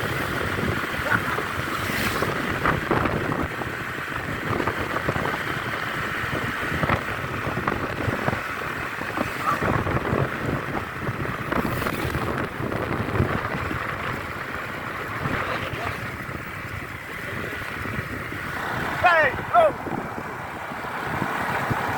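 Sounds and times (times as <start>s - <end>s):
vehicle moving at speed: 0.0s - 21.9s
wind buffeting microphone: 0.0s - 21.9s.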